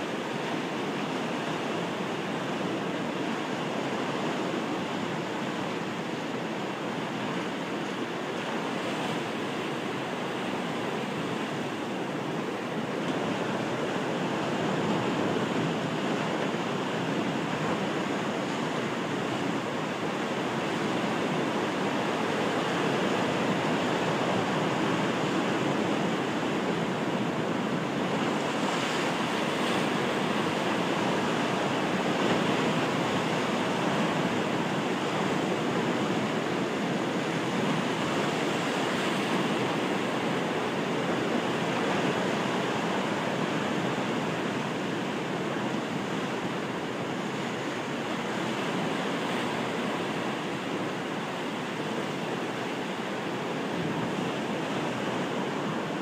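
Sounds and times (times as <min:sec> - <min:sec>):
surf washing over rocks: 0:00.0 - 0:56.0.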